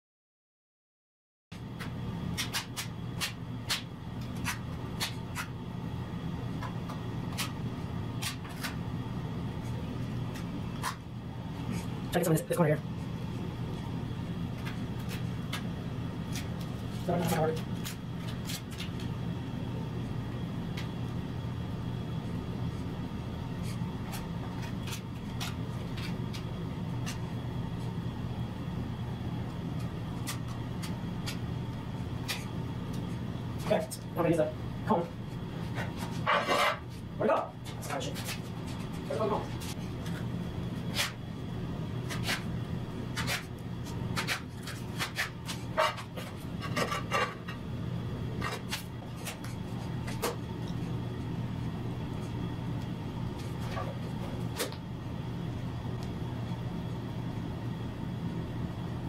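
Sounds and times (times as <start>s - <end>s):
steady low hum: 1.5s - 59.0s.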